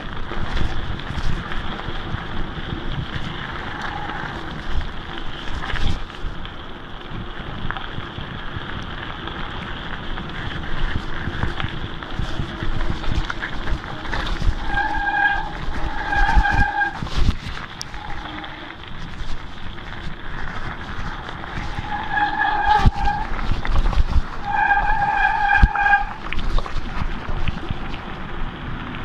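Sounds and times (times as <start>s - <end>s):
bike rattling over bumps: 0.0s - 29.0s
tyres crunching on gravel: 0.0s - 29.0s
brakes squealing: 0.2s - 6.2s, 8.9s - 27.9s.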